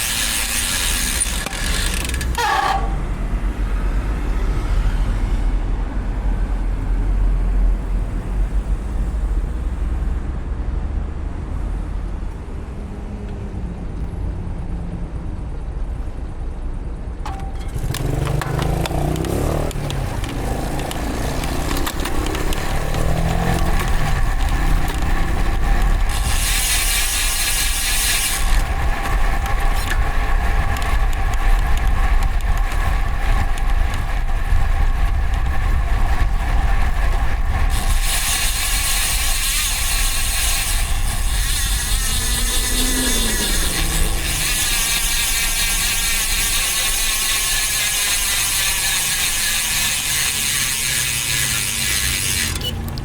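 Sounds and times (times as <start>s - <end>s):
wind and road noise while cycling: 0.0s - 53.0s.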